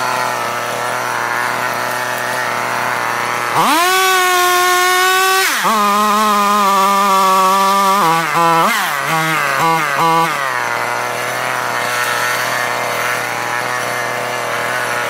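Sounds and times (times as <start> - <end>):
chainsaw revving and cutting: 0.0 - 15.0.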